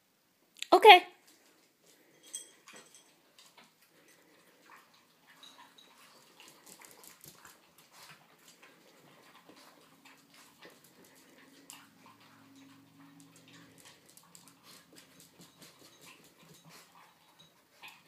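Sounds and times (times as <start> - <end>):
dogs crunching food: 1.3 - 18.0
dogs licking: 3.3 - 18.0.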